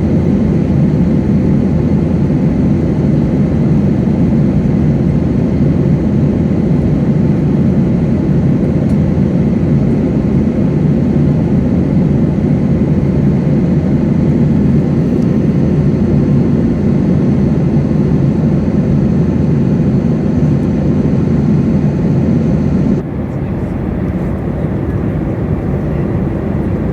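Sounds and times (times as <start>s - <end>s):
airliner cabin rumble: 0.0s - 26.9s.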